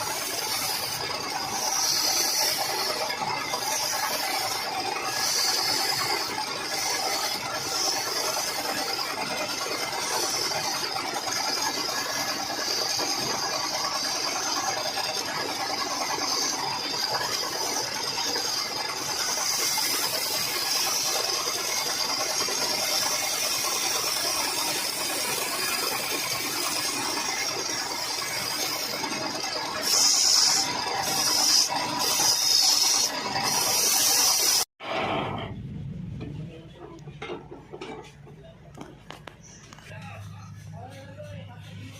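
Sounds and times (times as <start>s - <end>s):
wood lathe tool cutting wood: 0.0s - 35.3s.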